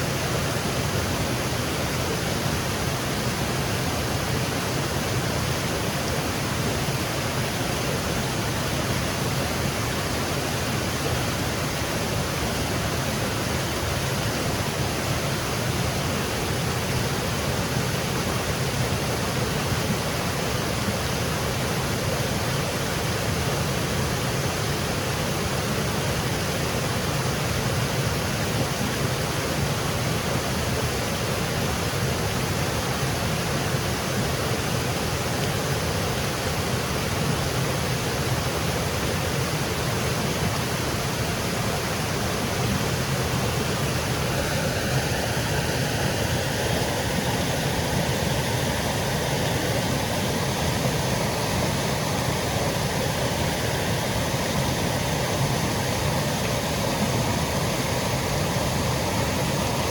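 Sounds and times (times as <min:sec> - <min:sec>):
waterfall cascading: 0:00.0 - 0:59.9.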